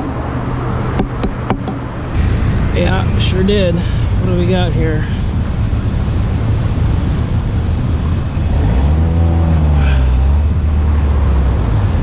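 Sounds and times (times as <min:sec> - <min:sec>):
road traffic: 0:00.0 - 0:12.0
vehicle engine passing close: 0:02.1 - 0:12.0.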